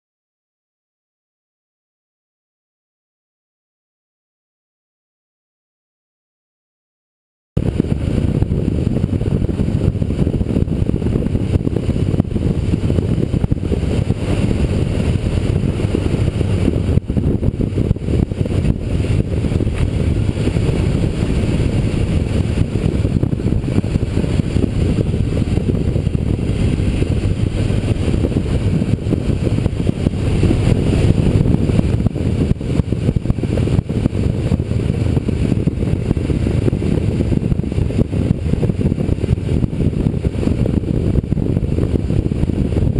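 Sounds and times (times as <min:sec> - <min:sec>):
motorcycle engine running: 0:07.6 - 0:42.9
wind buffeting microphone: 0:07.6 - 0:42.9.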